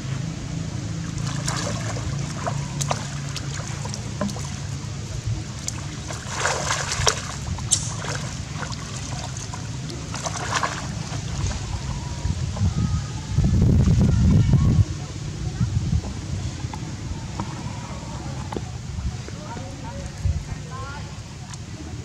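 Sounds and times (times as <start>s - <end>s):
low hum: 0.0s - 22.0s
water splashing and sloshing: 0.0s - 22.0s.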